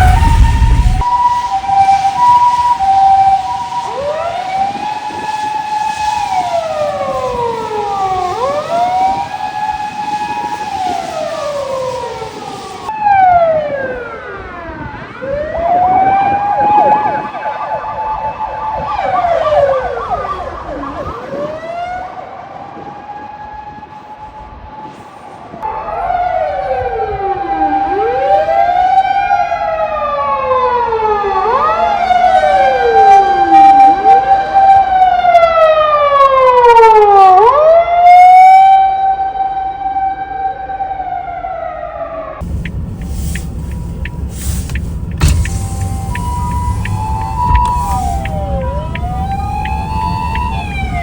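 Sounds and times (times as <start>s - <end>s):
emergency vehicle sirens wailing: 0.0s - 51.0s.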